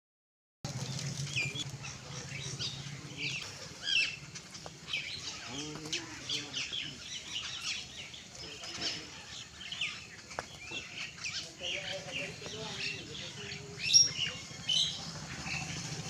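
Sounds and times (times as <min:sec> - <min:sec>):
small birds chirping: 0:00.7 - 0:16.0.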